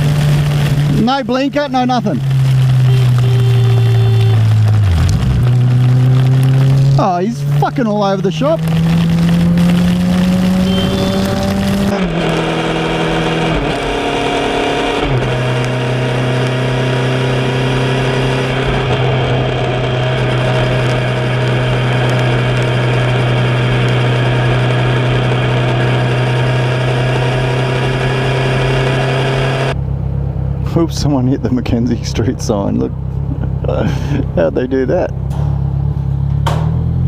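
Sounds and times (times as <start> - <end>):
wind and road noise: 0.0 - 37.0.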